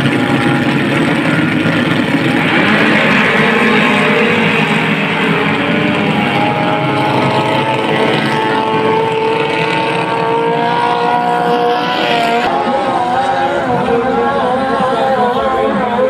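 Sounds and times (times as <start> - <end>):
speedboat engines at high revs: 0.0 - 16.0.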